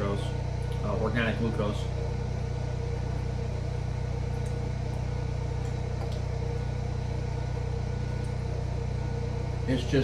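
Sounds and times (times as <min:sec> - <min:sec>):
generator engine humming: 0:00.0 - 0:10.0.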